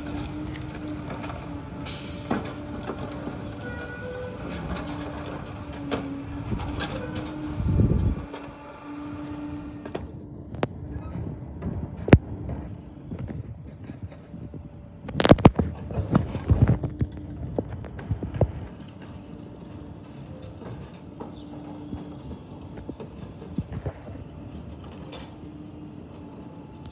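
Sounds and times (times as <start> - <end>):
garbage truck humming: 0.0 - 26.9.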